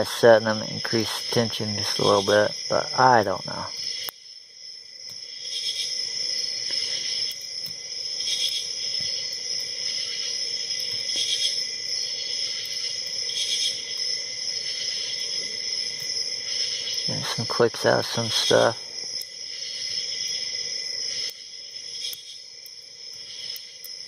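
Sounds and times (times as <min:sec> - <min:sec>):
high-pitched hiss and whine: 0:00.0 - 0:24.0.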